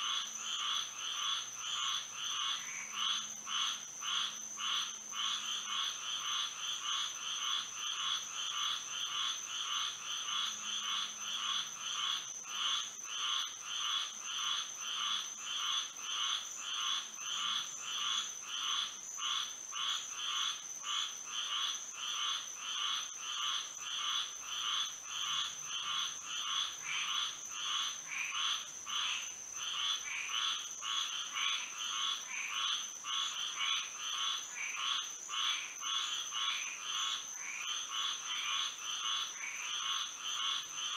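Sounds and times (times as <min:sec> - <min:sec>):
frogs calling: 0:00.0 - 0:40.9.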